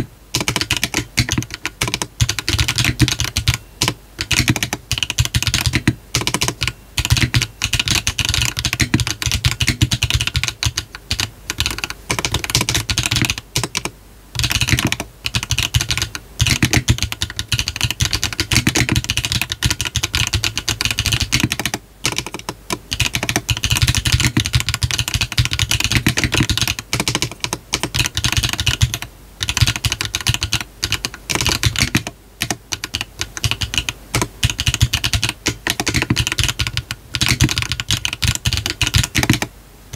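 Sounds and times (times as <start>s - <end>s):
fast mechanical keyboard typing: 0.0s - 39.5s.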